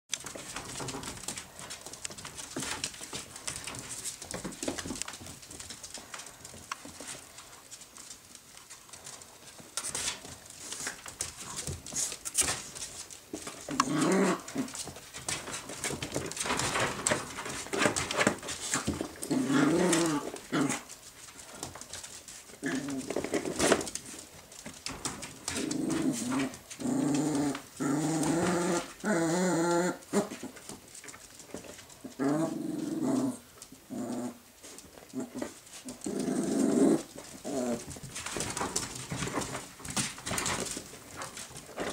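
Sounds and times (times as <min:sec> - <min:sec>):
claws clicking on wooden floor: 0:00.1 - 0:41.9.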